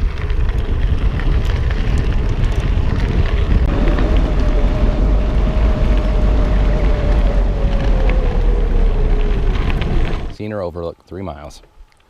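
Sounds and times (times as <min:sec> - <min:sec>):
wind buffeting microphone: 0:00.0 - 0:10.4
bike tyres rolling on gravel: 0:00.0 - 0:11.5.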